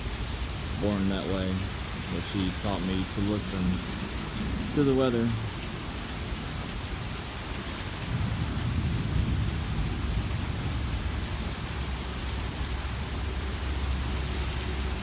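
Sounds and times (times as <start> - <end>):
heavy downpour: 0.0 - 15.0
rolling thunder rumble: 0.0 - 15.0.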